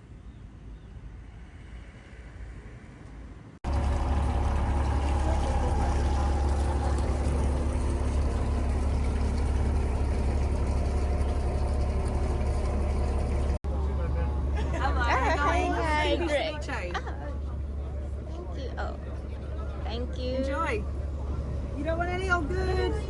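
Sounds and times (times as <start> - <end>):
boat engine droning: 3.6 - 23.0.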